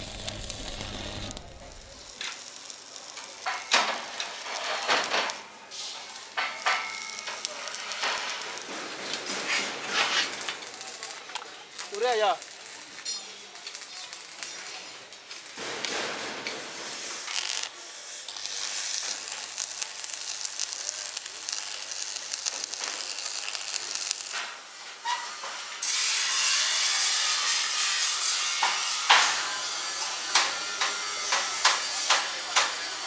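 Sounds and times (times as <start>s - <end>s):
welding arc crackling hiss: 0.0s - 32.8s.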